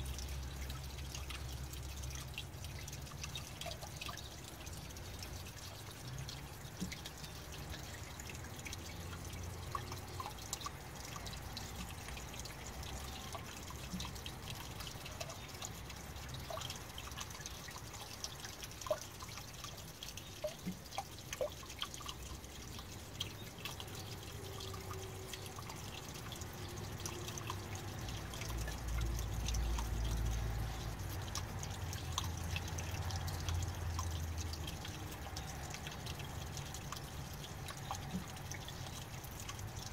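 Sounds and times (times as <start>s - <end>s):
fountain trickling and dripping: 0.0s - 39.9s.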